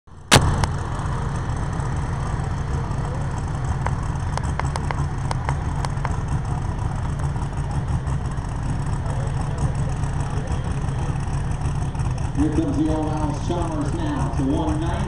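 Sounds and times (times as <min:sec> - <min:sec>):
tractor engine idling: 0:00.1 - 0:15.0.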